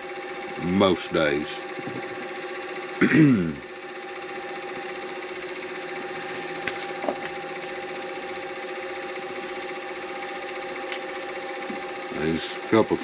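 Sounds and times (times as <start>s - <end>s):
lathe motor hum: 0.0s - 13.0s.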